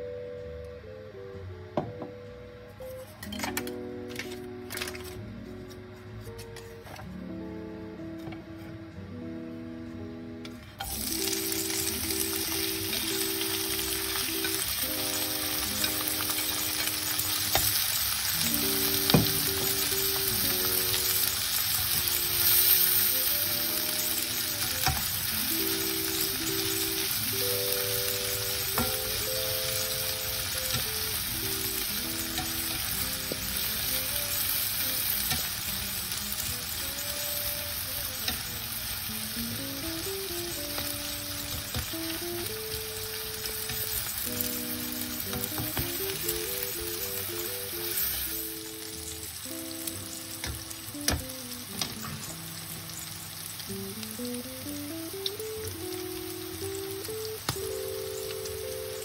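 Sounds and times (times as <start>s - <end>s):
soft slow melody: 0.0s - 59.0s
food sizzling in hot oil: 10.8s - 59.0s.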